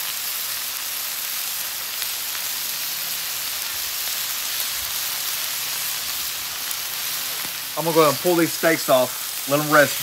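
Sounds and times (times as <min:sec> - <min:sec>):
food sizzling on a griddle: 0:00.0 - 0:10.0.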